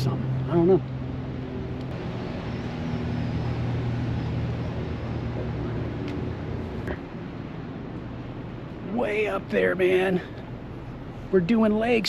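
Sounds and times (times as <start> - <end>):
road traffic noise: 0.0 - 12.0
vehicle engine humming: 0.0 - 12.0.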